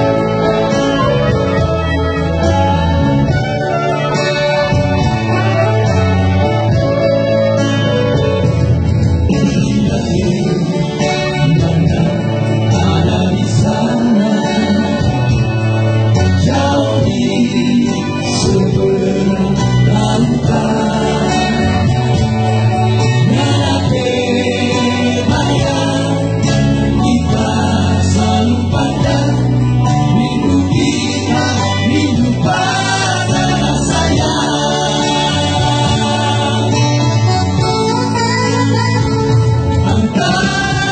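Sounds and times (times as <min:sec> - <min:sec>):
men singing into microphones: 0:00.0 - 0:07.0, 0:09.2 - 0:40.9
electronic keyboard: 0:00.0 - 0:40.9.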